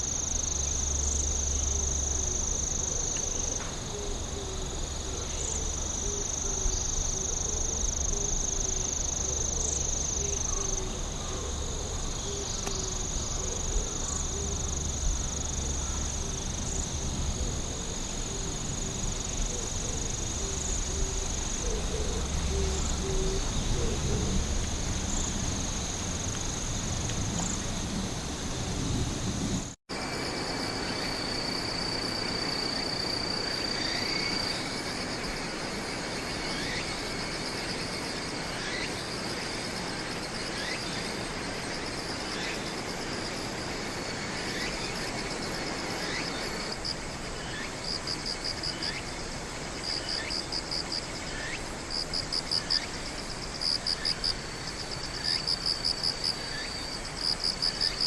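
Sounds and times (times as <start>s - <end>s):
crickets trilling: 0.0s - 58.0s
insect chirps: 0.0s - 58.0s
lower insect chorus: 0.0s - 58.0s.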